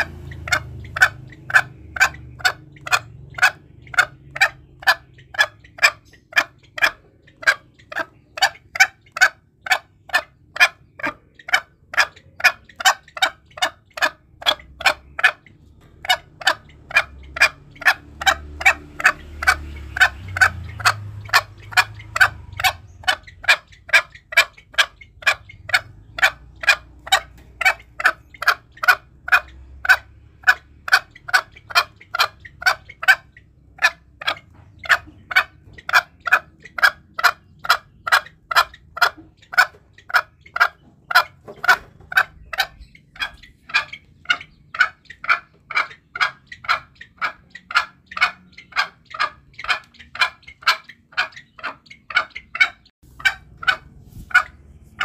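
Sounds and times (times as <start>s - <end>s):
junglefowl calling: 0.0s - 55.0s.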